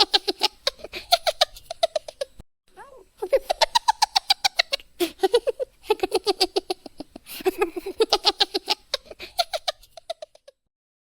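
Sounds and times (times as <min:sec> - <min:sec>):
high-pitched cartoon voices giggling: 0:00.0 - 0:02.4, 0:03.2 - 0:10.7.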